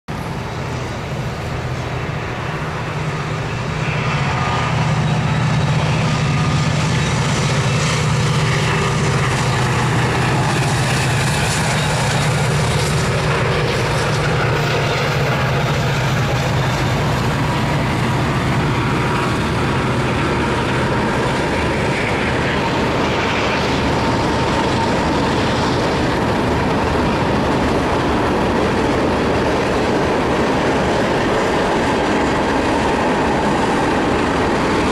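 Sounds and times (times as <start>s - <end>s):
diesel locomotive engines droning: 0.1s - 34.9s
train on rails: 0.1s - 34.9s.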